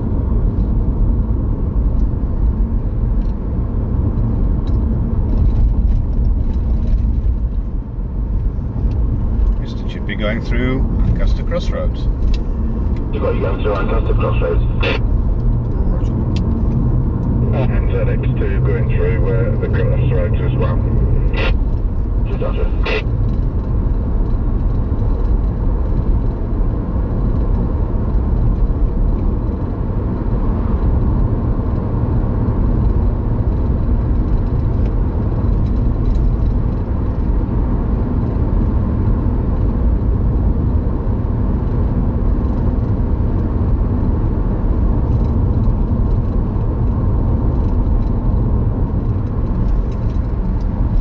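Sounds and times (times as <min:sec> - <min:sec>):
road and tyre rumble: 0:00.0 - 0:51.0.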